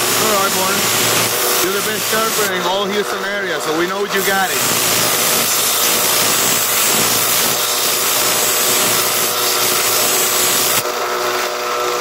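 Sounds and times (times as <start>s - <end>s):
belt grinder motor hum: 0.0s - 12.0s
blade grinding on belt grinder: 0.0s - 12.0s.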